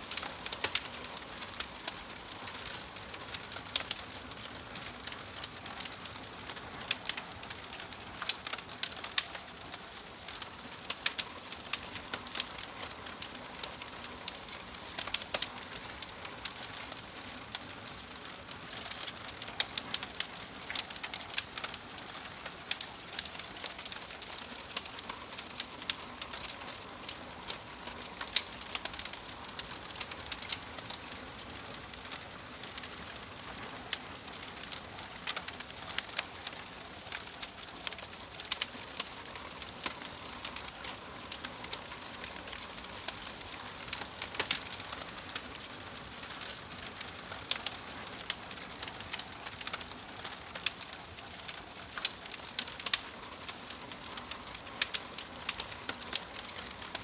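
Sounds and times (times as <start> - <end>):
fire snapping and popping: 0.0 - 57.0
fire hissing: 0.1 - 57.0.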